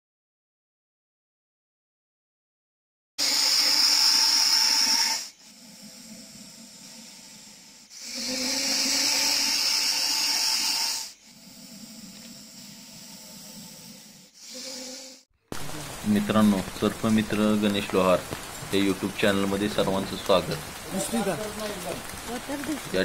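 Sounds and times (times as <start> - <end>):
snake hissing: 3.2 - 22.7.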